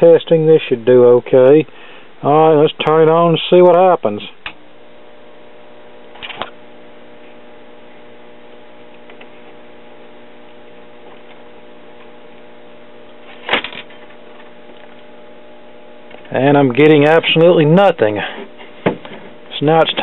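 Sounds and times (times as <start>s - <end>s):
tube radio mains hum: 0.0s - 20.0s.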